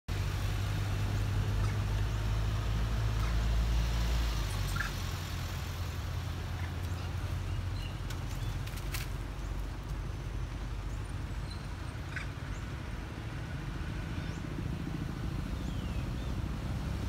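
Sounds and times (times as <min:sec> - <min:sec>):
engine rumbling: 0:00.1 - 0:17.0.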